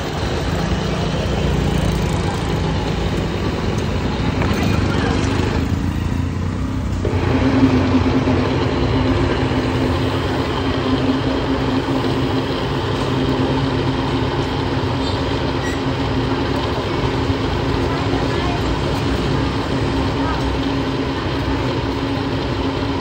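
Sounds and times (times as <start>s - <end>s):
electric blender running: 0.0s - 23.0s.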